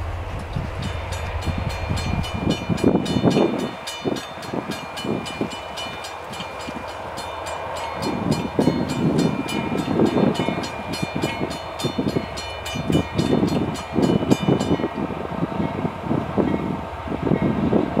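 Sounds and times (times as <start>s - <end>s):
low rumble of locomotives: 0.0s - 18.0s
locomotive bell ringing: 0.5s - 15.9s.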